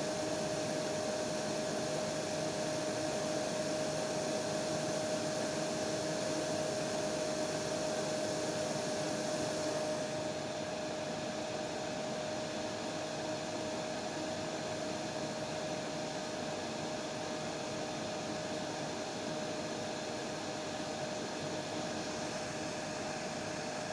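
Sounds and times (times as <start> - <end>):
hair dryer hissing and humming: 0.0 - 23.9.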